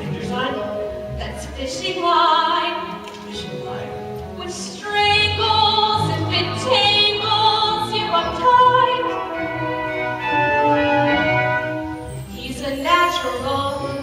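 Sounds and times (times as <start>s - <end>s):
instrumental accompaniment: 0.0s - 14.0s.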